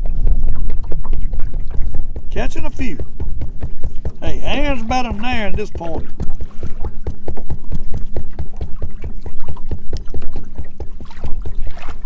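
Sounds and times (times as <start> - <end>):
steady low hum: 0.0 - 12.0
waves slapping boat hull: 0.0 - 12.0.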